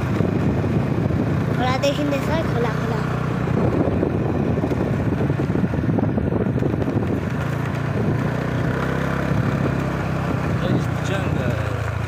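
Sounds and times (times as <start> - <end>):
road and wind noise: 0.0 - 12.0
vehicle engine running: 0.0 - 12.0.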